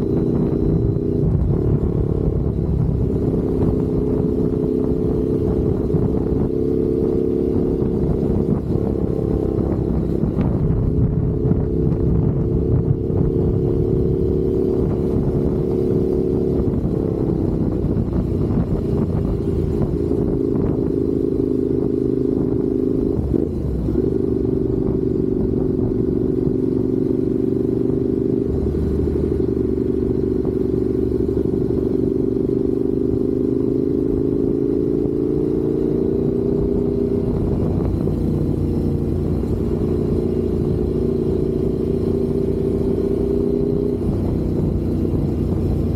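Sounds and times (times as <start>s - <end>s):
low wind rumble: 0.0s - 45.9s
motorcycle engine cruising: 0.0s - 45.9s.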